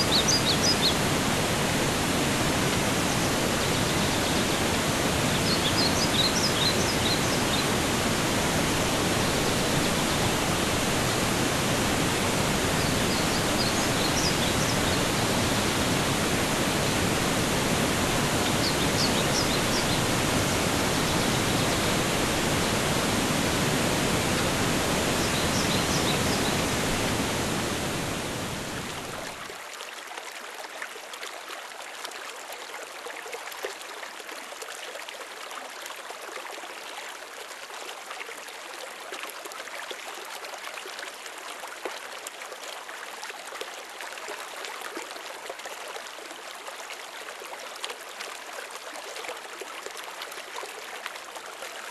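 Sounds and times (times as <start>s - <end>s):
rushing water: 0.0s - 51.9s
trickling stream with splashes: 0.0s - 51.9s.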